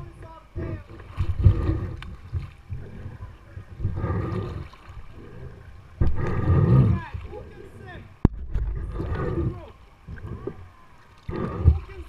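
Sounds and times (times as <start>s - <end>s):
water sloshing around kayak: 0.0s - 12.0s.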